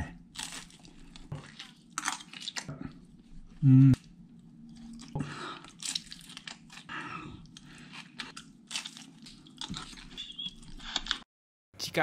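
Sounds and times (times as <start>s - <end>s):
man chewing and crunching food: 0.1s - 11.2s.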